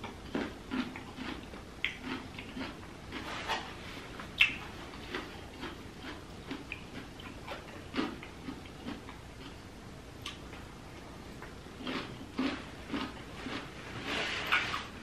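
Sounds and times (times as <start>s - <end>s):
person chewing with mouth smacks: 0.0s - 9.6s, 10.2s - 14.8s.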